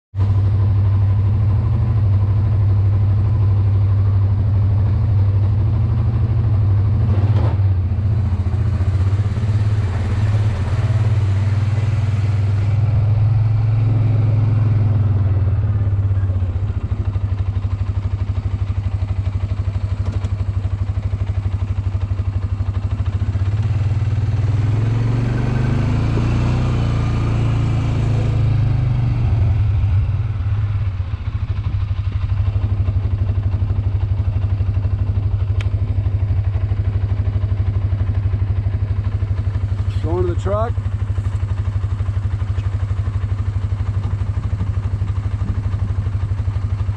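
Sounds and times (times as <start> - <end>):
atv engine running: 0.2 - 46.9.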